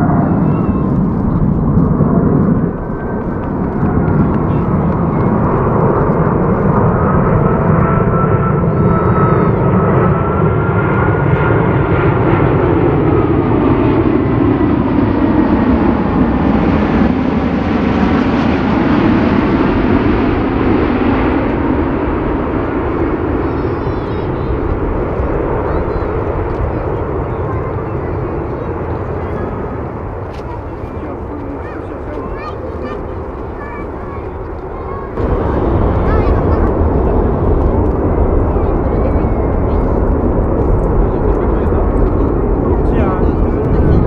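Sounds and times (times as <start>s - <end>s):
jet engine whine: 0.0s - 44.0s
jet roar passing close: 0.0s - 44.0s.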